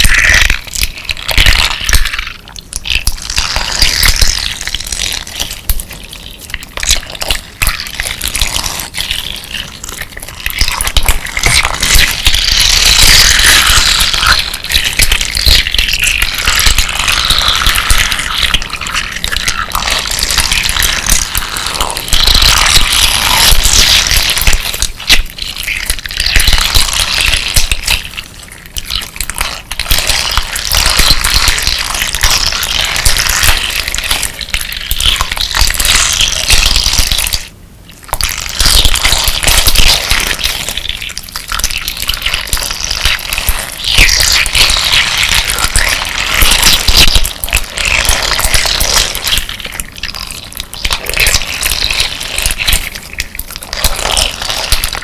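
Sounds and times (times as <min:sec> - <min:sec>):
slime squelching: 0:00.0 - 0:55.0.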